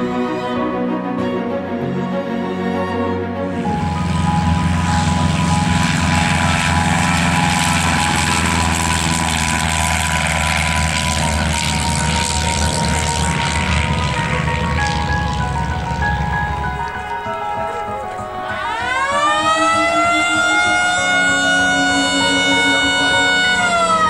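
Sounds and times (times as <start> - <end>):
propeller plane engine drone: 2.8 - 24.0.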